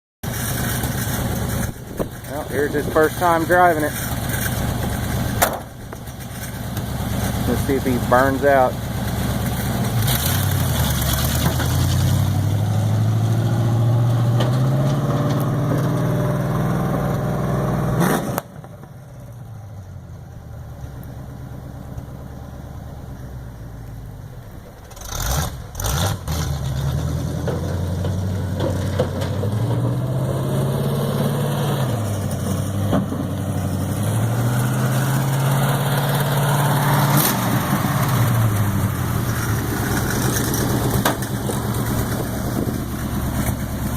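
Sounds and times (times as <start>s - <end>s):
truck engine revving: 0.2s - 18.6s, 24.8s - 43.9s.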